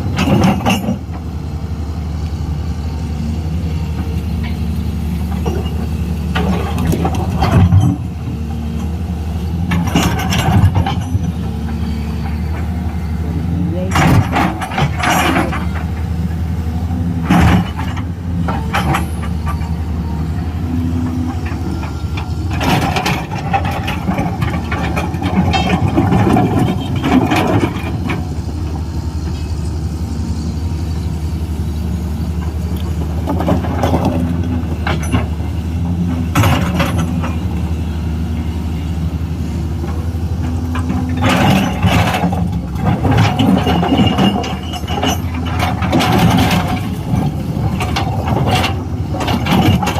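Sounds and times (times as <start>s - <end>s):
diesel engine running: 0.0s - 49.9s
excavator clanking and knocking: 0.0s - 49.9s.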